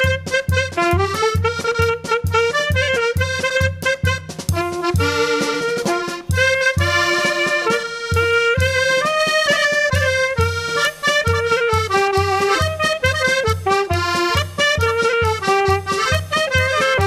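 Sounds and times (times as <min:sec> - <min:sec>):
accordion dance tune: 0:00.0 - 0:17.0.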